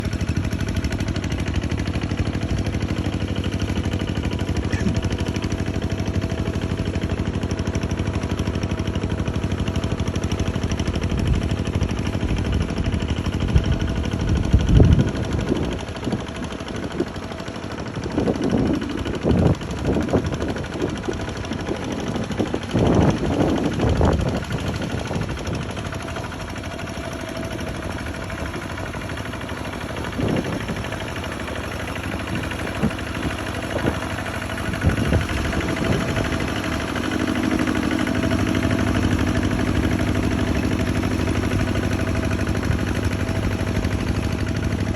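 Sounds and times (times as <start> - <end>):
diesel engine clattering: 0.0 - 44.9.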